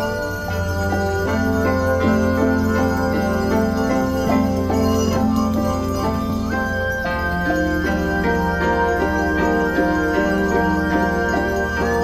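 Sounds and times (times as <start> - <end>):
orchestra playing: 0.0 - 12.0.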